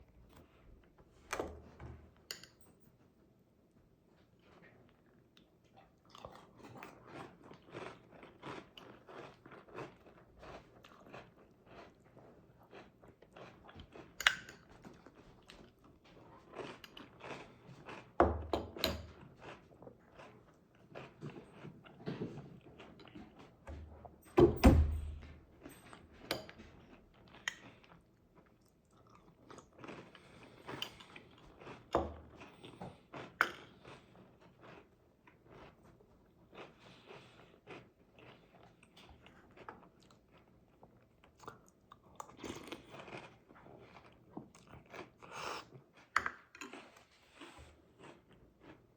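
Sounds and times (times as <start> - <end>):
person chewing crunchy cereal: 4.8 - 23.7, 25.6 - 48.9.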